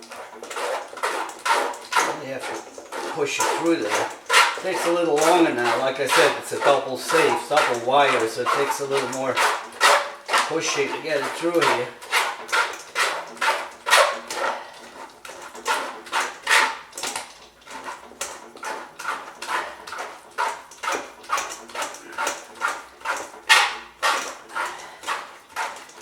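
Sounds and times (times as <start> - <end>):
scraping through mesh strainer: 0.0 - 18.0, 18.7 - 26.0.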